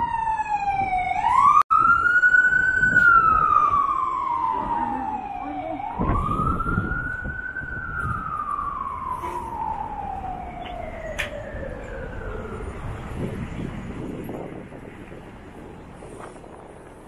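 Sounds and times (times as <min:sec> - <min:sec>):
emergency siren wailing: 0:00.0 - 0:16.8
low street rumble: 0:00.0 - 0:17.0.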